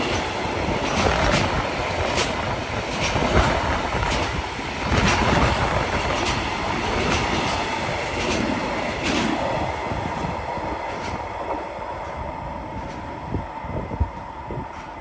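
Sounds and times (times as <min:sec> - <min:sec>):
train wheels clacking over rail joints: 0:00.0 - 0:13.2.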